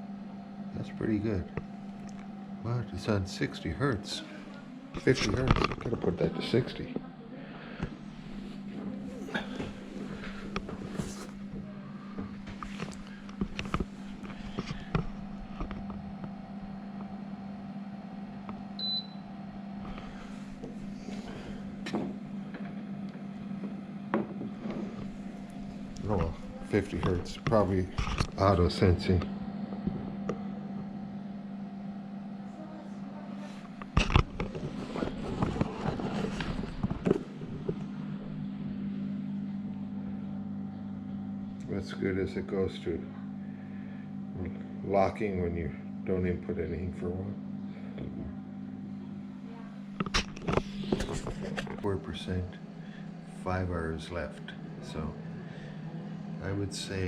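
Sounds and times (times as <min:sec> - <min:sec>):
fridge compressor hum: 0:00.0 - 0:57.0.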